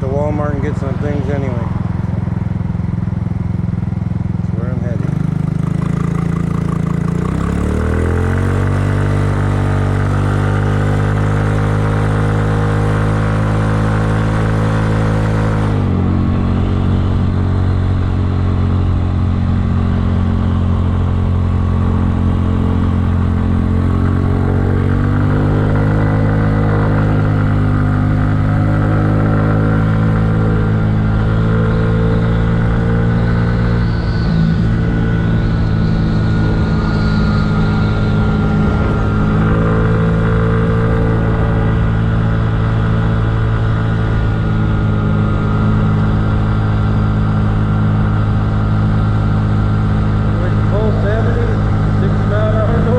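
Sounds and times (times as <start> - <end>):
scooter engine: 0.0 - 52.9.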